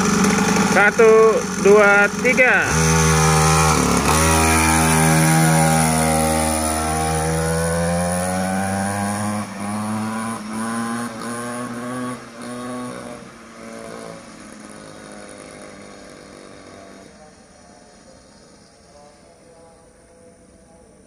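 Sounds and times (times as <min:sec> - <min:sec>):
two-stroke dirt bike engine: 0:00.0 - 0:18.7.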